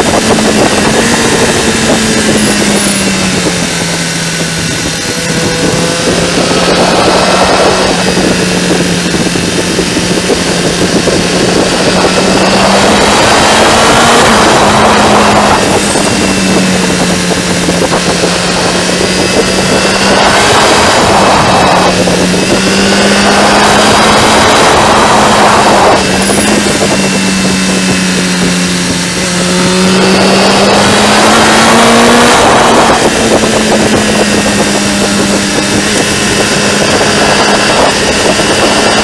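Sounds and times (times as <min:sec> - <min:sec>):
motorcycle engine running: 0:00.0 - 0:39.0
wind rush: 0:00.0 - 0:39.0.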